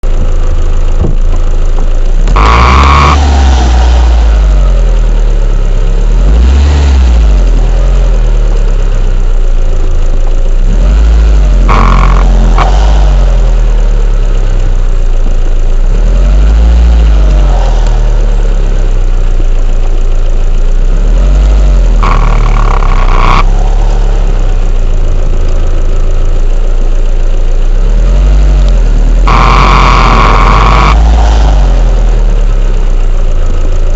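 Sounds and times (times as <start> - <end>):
engine drone: 0.0 - 33.9.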